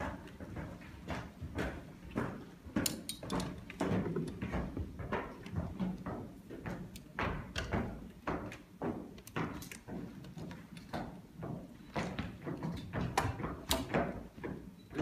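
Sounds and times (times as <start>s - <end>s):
footsteps on hard floor: 0.0s - 15.0s.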